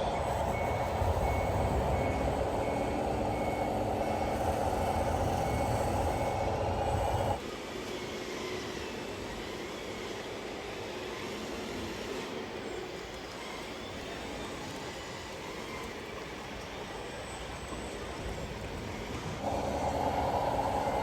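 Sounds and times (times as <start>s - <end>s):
model trucks small motors running: 0.0s - 21.0s.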